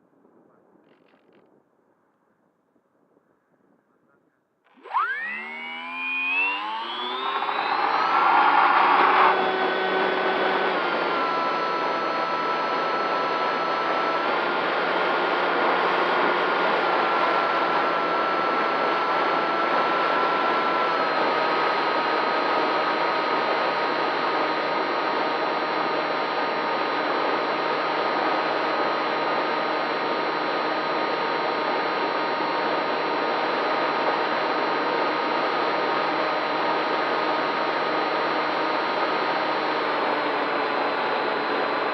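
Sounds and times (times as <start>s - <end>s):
drone motors whining: 4.7s - 41.9s.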